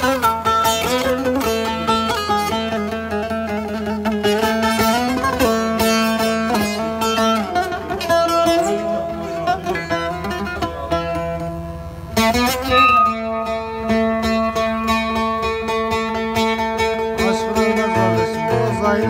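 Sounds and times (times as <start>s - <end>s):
plucked string folk melody: 0.0s - 19.0s.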